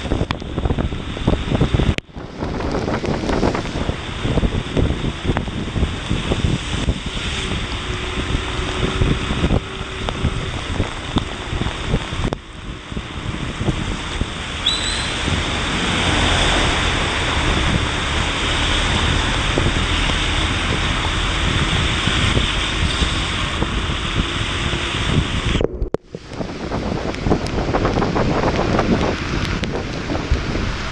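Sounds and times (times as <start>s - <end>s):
heavy rain: 0.0s - 30.9s
wind buffeting microphone: 0.0s - 30.9s.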